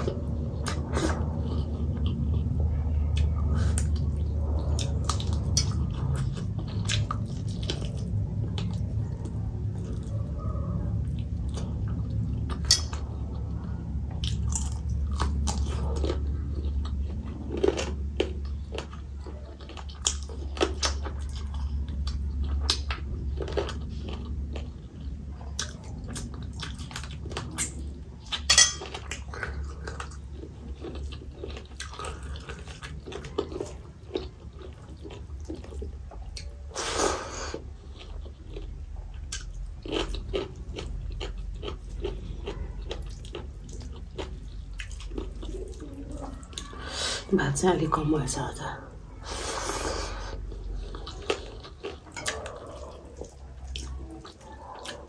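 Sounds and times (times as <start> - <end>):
person chewing: 0.0 - 47.3, 48.8 - 55.0.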